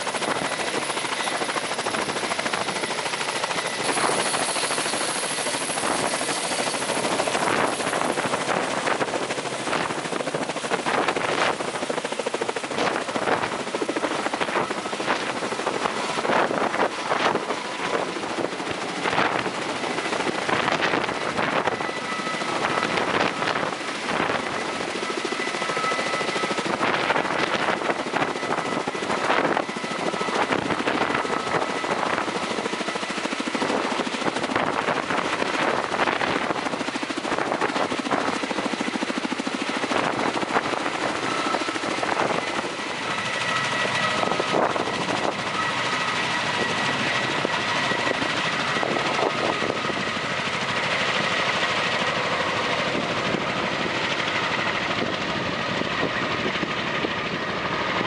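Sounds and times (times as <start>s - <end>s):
helicopter rotor blade beat: 0.0s - 58.0s
turbine whine: 0.0s - 58.0s
wind buffeting microphone: 0.0s - 58.0s.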